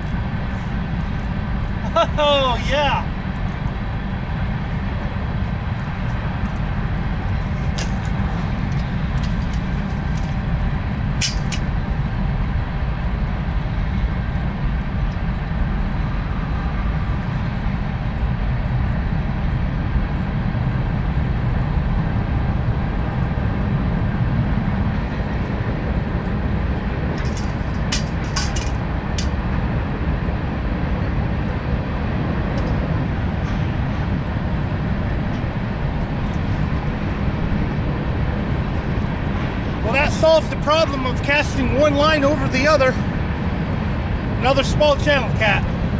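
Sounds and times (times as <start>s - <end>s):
train rumbling past: 0.0s - 45.9s
wind buffeting microphone: 0.0s - 45.9s.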